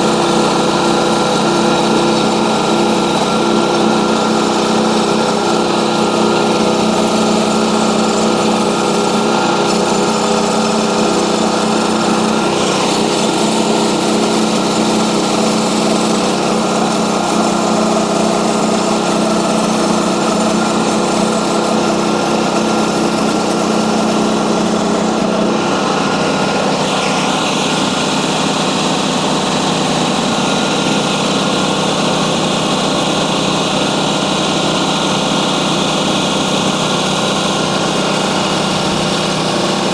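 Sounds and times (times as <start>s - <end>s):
saw blade cutting log: 0.0s - 39.9s
small petrol engine running: 0.0s - 39.9s.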